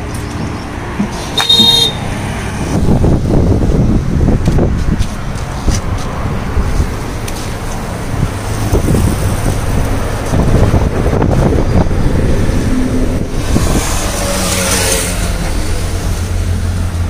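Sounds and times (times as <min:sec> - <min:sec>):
road traffic noise: 0:00.0 - 0:17.0
loud rushing sound: 0:00.7 - 0:17.0
wind buffeting microphone: 0:01.9 - 0:17.0.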